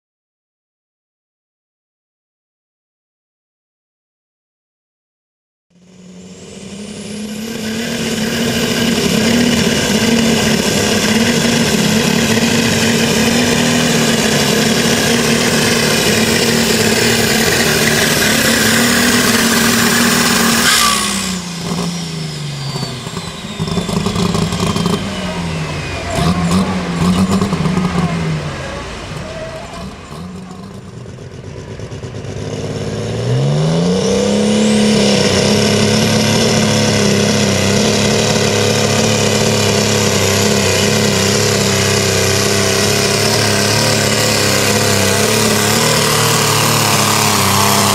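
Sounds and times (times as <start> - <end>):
turbo whine: 5.7 - 32.0, 33.9 - 47.9
tractor engine roaring: 5.7 - 47.9.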